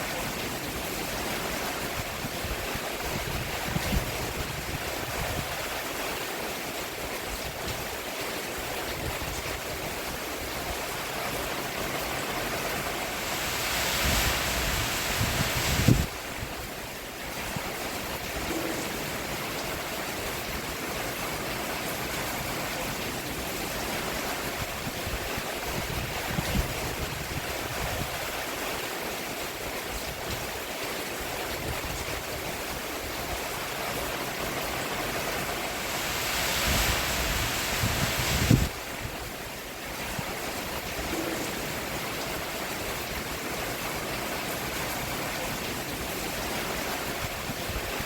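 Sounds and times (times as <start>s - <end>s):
rain on a roof: 0.0s - 48.0s.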